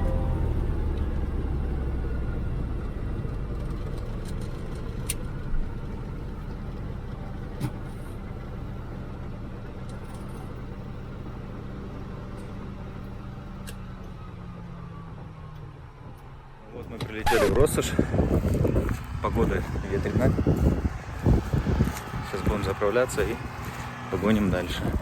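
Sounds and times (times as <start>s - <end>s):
radial aircraft engine droning: 0.0s - 25.0s.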